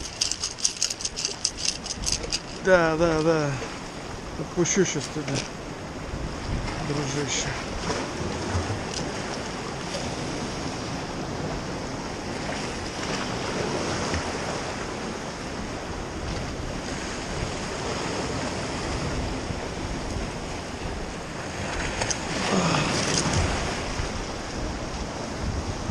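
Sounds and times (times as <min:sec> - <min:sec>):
surf washing against rocks: 0:00.0 - 0:25.9
wind buffeting microphone: 0:00.0 - 0:25.9.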